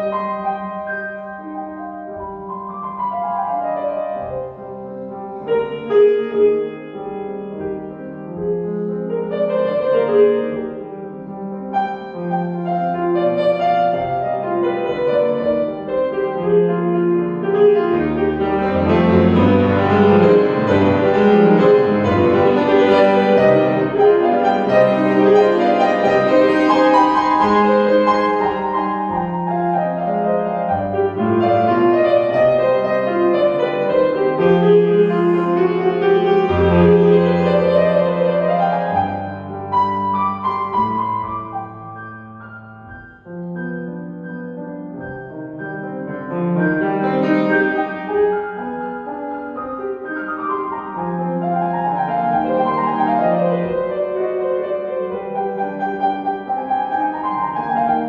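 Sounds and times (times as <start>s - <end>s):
piano piece: 0.0s - 58.0s.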